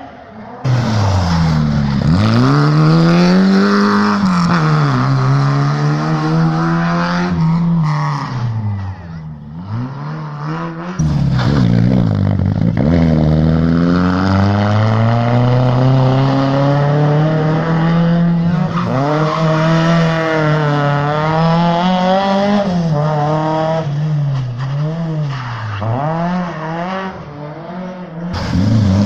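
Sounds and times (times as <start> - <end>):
rally car engine revving: 0.5 - 29.0.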